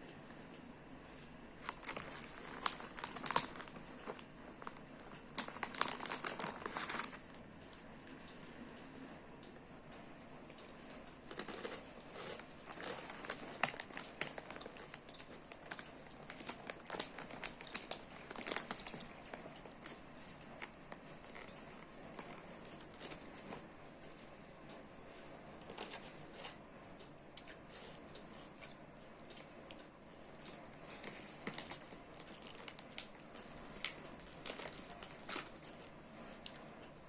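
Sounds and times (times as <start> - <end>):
crinkling and rustling: 0.2 - 8.6, 9.5 - 26.6, 27.4 - 37.0.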